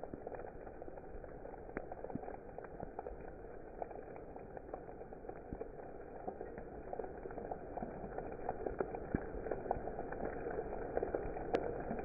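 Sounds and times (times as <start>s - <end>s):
hailstones ticking: 0.0s - 11.9s.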